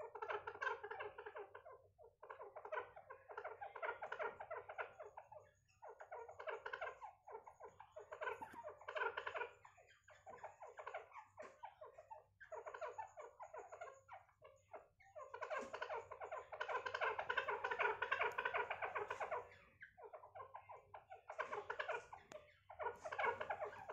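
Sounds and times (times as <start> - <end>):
bird chattering calls: 0.1 - 23.9.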